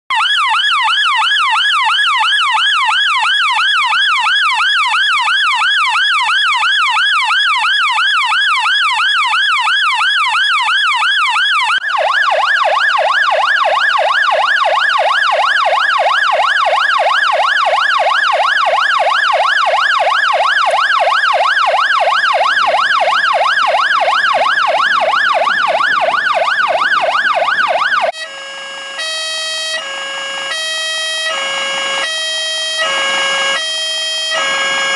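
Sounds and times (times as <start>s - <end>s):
fire engine siren wailing: 0.1s - 34.9s
hi-lo siren tones: 0.1s - 34.9s
second siren sweeping: 0.1s - 34.9s.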